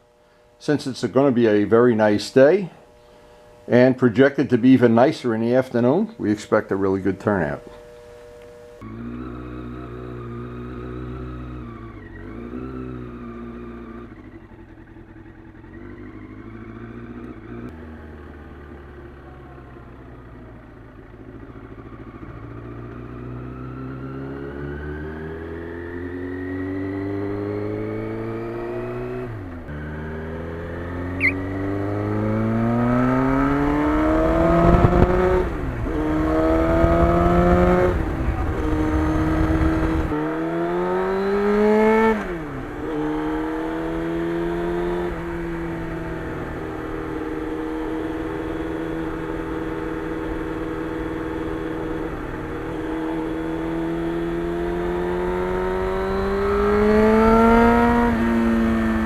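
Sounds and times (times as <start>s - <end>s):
motorcycle engine accelerating: 4.6s - 59.0s.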